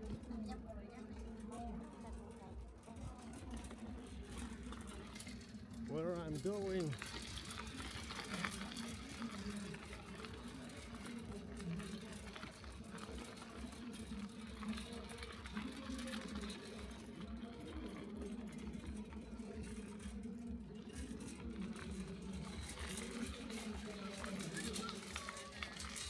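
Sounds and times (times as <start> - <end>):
small engine running: 3.0 - 26.0.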